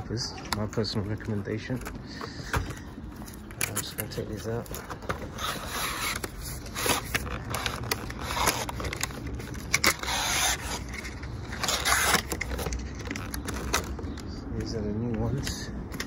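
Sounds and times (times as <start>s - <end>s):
packaging scraping and rustling: 0.4s - 15.6s.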